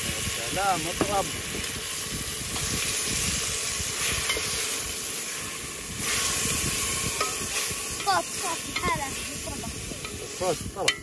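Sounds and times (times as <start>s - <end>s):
vegetables sizzling in a pot: 0.0s - 11.0s
wooden spoon stirring and scraping: 0.9s - 11.0s.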